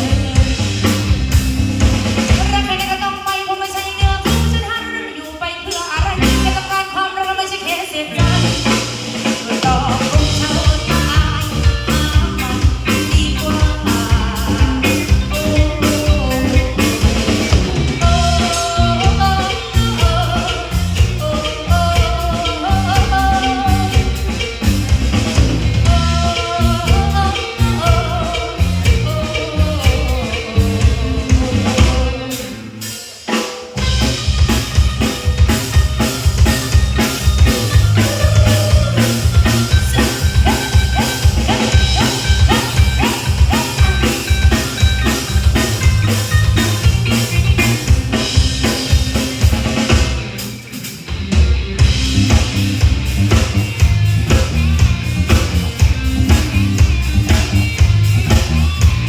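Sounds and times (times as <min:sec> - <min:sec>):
drum kit beat: 0:00.0 - 0:05.0, 0:05.7 - 0:07.0, 0:07.7 - 0:59.0
live band playing: 0:00.0 - 0:59.0.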